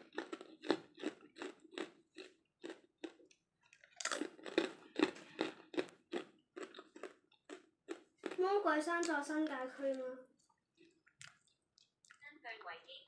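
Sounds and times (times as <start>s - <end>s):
close-up chewing: 0.0s - 12.3s.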